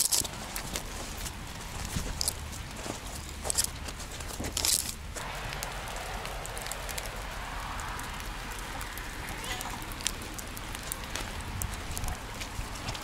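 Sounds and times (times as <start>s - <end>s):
footsteps on wet leafy path: 0.0s - 13.0s
light rain hiss: 0.0s - 13.0s.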